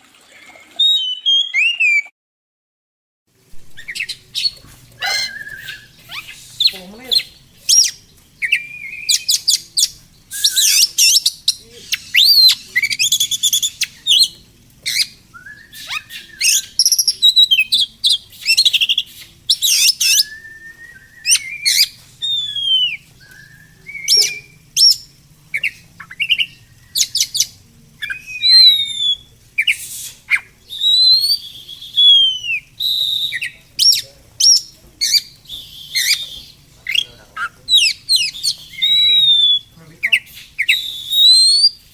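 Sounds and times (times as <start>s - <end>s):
songbirds singing: 3.4s - 41.9s.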